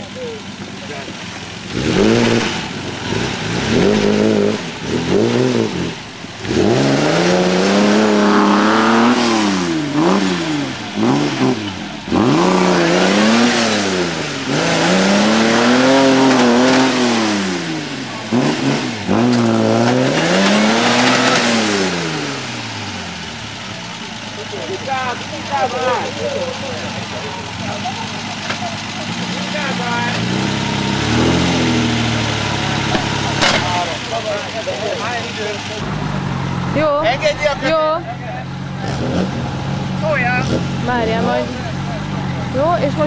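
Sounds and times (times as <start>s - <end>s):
engine revving: 0.0s - 43.0s.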